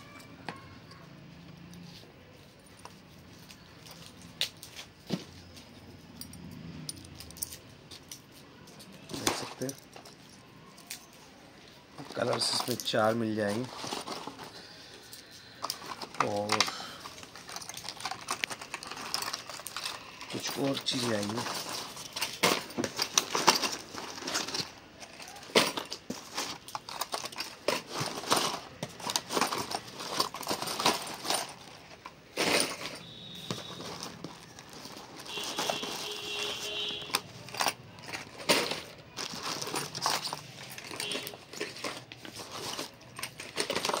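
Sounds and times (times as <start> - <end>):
plastic crinkling and rustling: 7.3 - 44.0.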